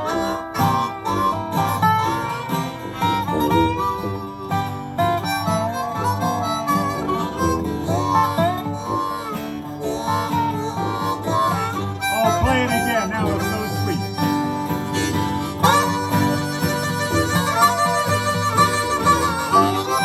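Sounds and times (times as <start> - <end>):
dobro: 0.0 - 20.0
harmonica lead: 0.0 - 20.0
plucked acoustic guitar: 0.0 - 20.0
sousaphone bass: 0.0 - 20.0.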